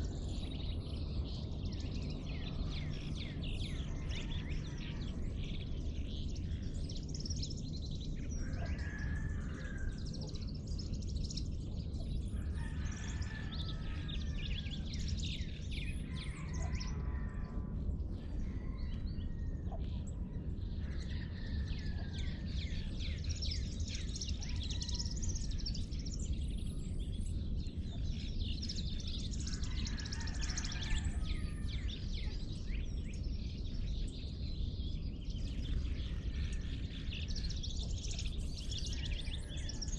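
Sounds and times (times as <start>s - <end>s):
birds chirping: 0.0s - 39.9s
lower fuller bird calls: 0.0s - 39.9s
steady low rumble: 0.0s - 39.9s.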